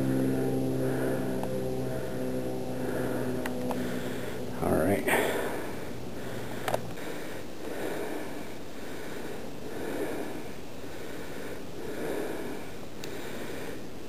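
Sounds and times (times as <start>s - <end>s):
person breathing hard: 0.0s - 14.0s.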